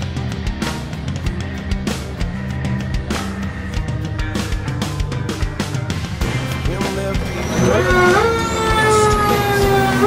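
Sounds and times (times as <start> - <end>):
rock music with drums and guitar: 0.0 - 10.0.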